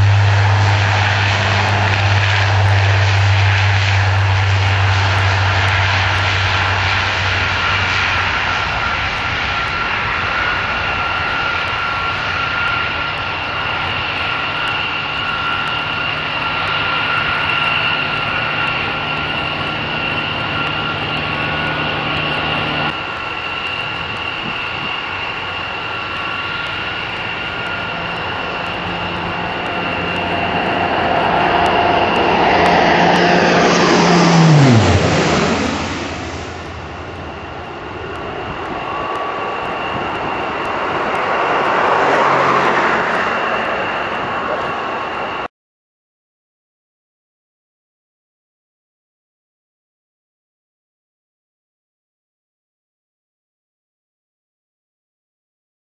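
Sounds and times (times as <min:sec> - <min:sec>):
turboprop plane engines: 0:00.0 - 0:45.5.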